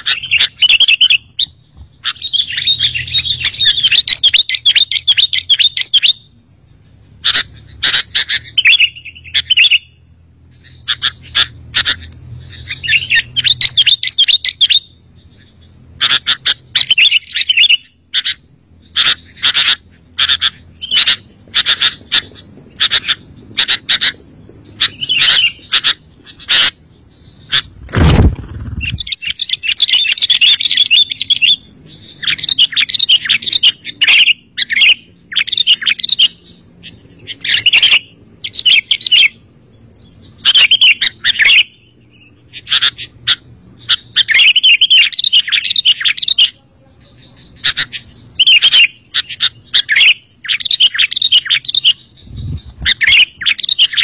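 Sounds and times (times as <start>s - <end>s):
bird chirping calls: 0.0s - 54.0s.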